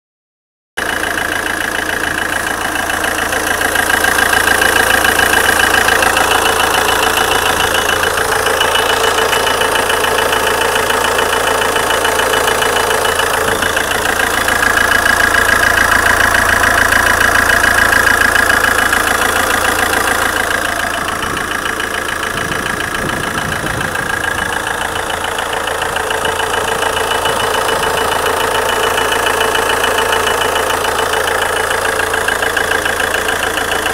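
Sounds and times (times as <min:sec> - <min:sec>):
diesel engine rattling: 0:00.8 - 0:33.9
high engine tone: 0:00.8 - 0:33.9.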